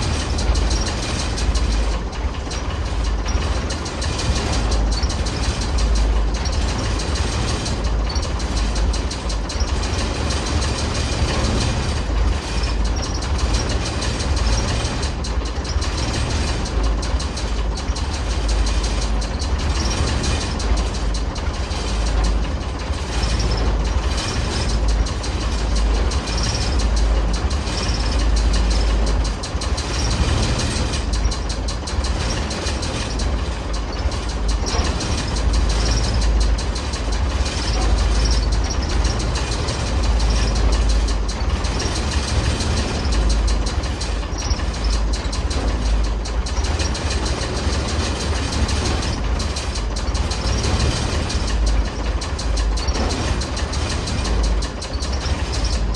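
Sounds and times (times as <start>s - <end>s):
fast ticking rattle: 0.0s - 55.9s
truck engine running: 0.0s - 55.9s.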